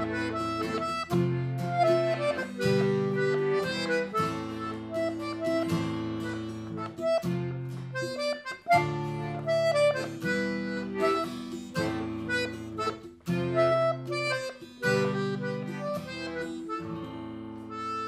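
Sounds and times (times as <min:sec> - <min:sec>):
accordion melody: 0:00.0 - 0:18.0
guitar strumming: 0:00.0 - 0:18.0.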